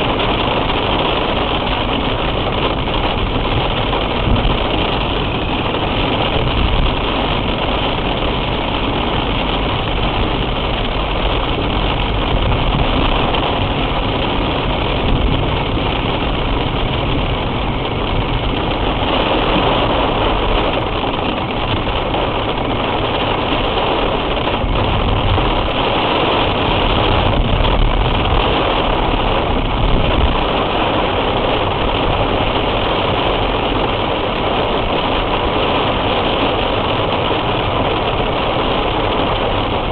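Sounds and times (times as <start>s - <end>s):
car engine low rumble: 0.0s - 39.9s
road noise: 0.0s - 39.9s.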